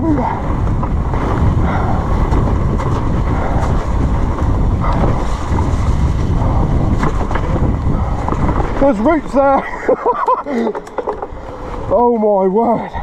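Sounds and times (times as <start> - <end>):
bike rattle: 0.0 - 12.2
wind buffeting microphone: 0.0 - 13.0.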